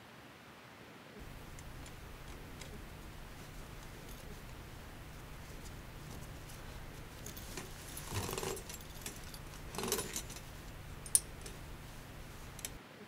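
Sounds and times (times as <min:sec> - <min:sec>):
metal trap chain rattling: 0:01.2 - 0:12.8.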